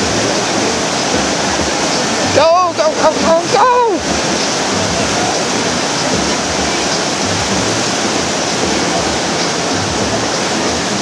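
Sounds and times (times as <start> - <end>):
whitewater rapids roaring: 0.0 - 11.0.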